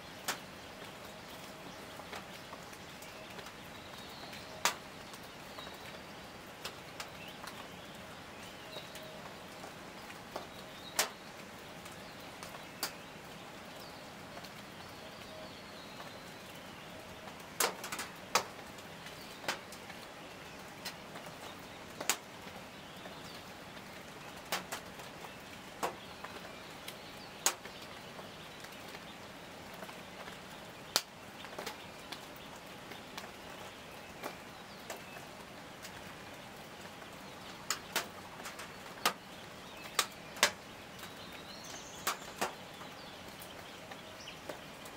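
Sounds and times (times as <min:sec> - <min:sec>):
forest background hiss: 0:00.0 - 0:44.9.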